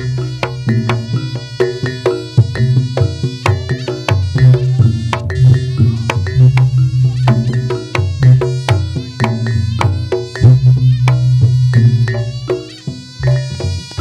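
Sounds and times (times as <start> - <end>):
loud percussion music: 0.0 - 14.0.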